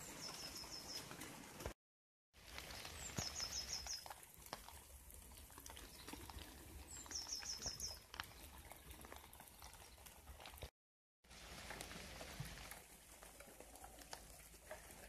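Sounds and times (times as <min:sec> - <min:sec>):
rain dripping and pattering: 0:00.0 - 0:15.0.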